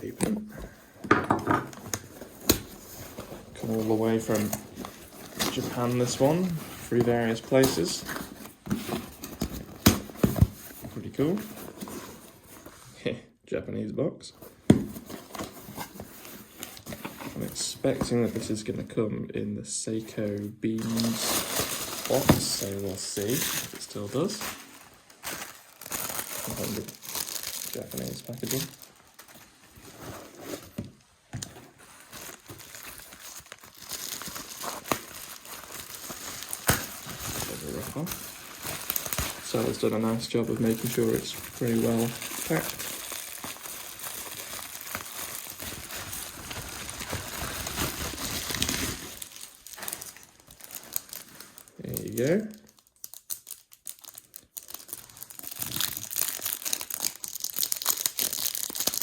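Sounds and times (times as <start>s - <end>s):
packaging crinkling and rustling: 0.0s - 12.9s, 14.4s - 18.8s, 20.2s - 59.0s.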